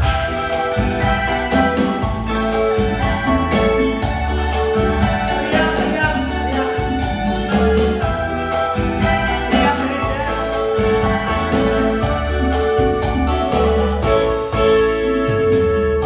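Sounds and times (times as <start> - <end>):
choir singing: 0.0 - 14.5
electronic keyboard organ chords: 0.0 - 16.0.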